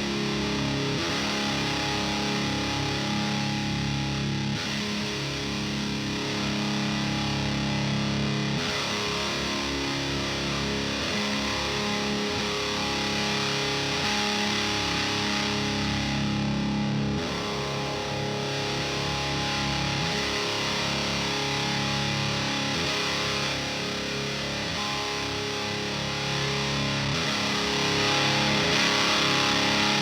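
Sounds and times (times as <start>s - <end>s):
distorted electric guitar chords: 0.0s - 30.0s.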